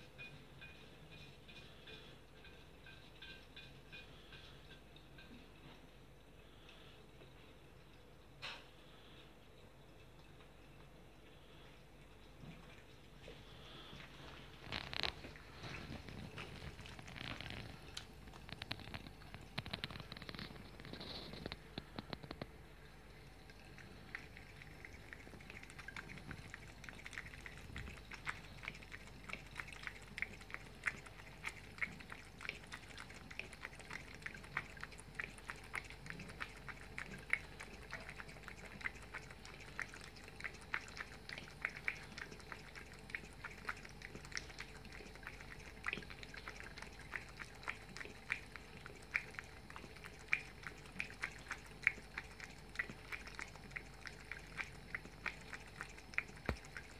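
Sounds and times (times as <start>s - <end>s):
cat lapping water: 4.0s - 56.9s
tap water trickling: 7.2s - 56.9s.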